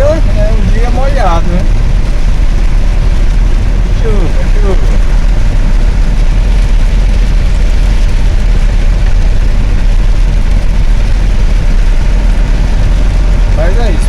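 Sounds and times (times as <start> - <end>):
vehicle driving on wet road: 0.0 - 14.0.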